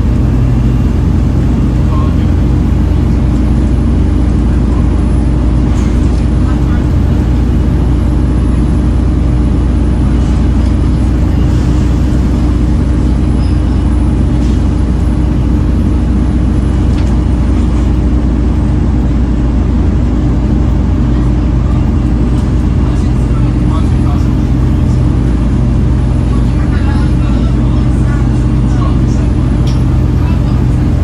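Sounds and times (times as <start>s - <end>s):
bus diesel engine droning: 0.0s - 31.0s
road noise: 0.0s - 31.0s.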